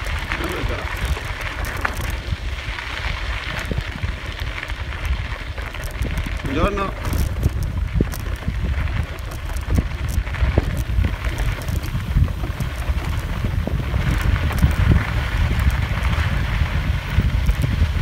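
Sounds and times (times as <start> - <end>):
bicycle tyres on dirt: 0.0 - 18.0
small clicks and rattles: 0.0 - 18.0
wind rumbling on microphone: 0.0 - 18.0.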